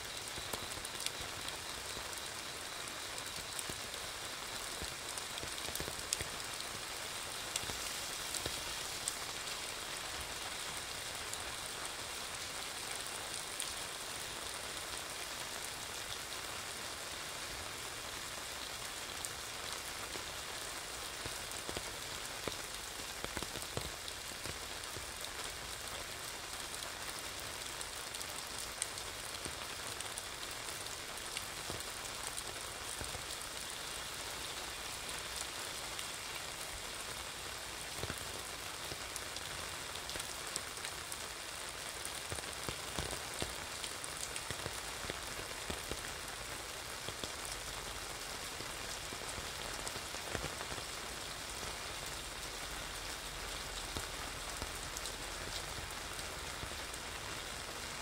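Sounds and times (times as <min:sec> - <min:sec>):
rain on wet pavement: 0:00.0 - 0:58.0
raindrops ticking on umbrella: 0:00.1 - 0:14.5, 0:18.6 - 0:58.0.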